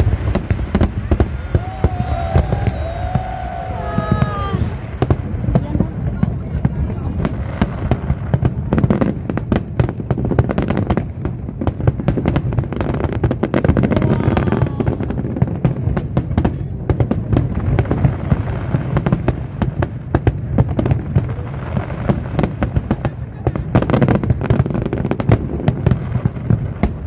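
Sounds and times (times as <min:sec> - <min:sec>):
fireworks crackles and bangs: 0:00.0 - 0:27.0.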